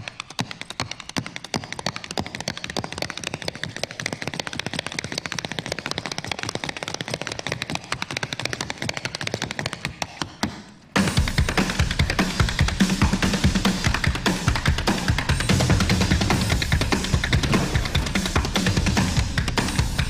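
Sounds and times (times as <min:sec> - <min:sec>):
tap dancing on wooden boards: 0:00.0 - 0:20.0.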